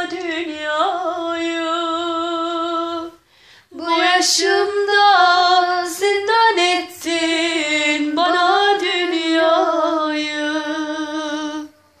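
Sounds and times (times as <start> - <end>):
high voice singing folk song: 0.0 - 12.0.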